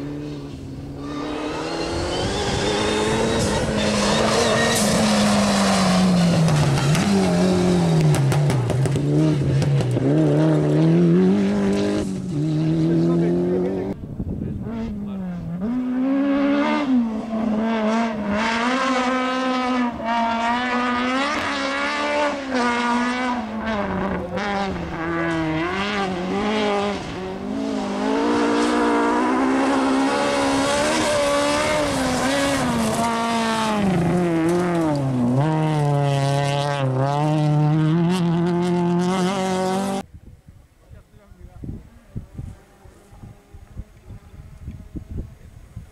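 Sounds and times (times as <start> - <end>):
rally car engine revving: 0.0 - 40.1.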